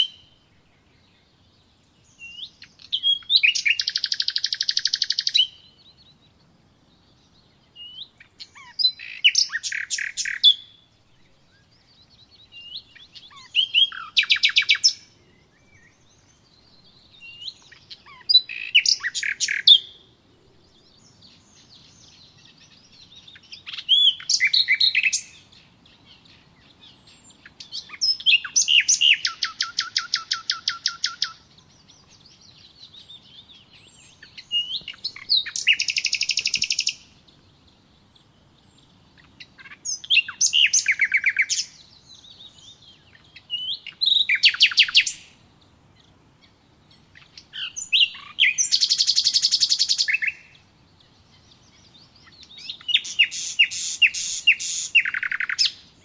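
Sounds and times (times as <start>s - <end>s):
faint bird chirps: 0.0s - 56.0s
songbird trilling: 2.1s - 6.3s, 7.2s - 20.0s, 20.8s - 45.4s, 46.0s - 56.0s.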